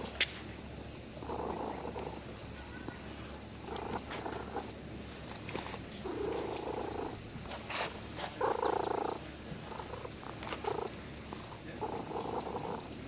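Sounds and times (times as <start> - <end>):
cat purring: 1.2 - 2.4, 3.1 - 13.0.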